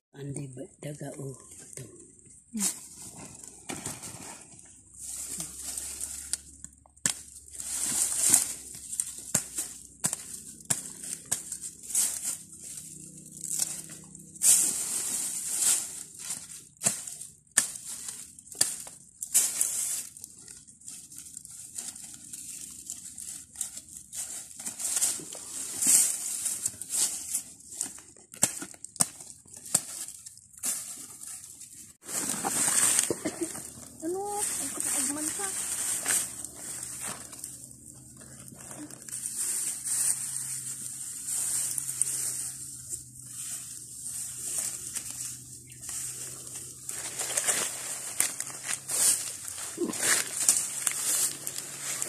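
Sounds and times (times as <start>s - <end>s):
dry grass and leaves rustling: 0.2s - 52.0s.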